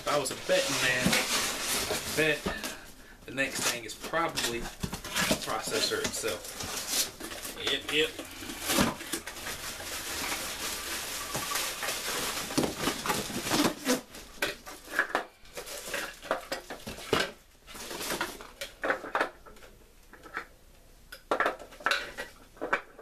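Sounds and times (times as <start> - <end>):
packaging rustling: 0.0 - 19.2
plastic parts clattering: 0.1 - 20.5, 21.2 - 23.0.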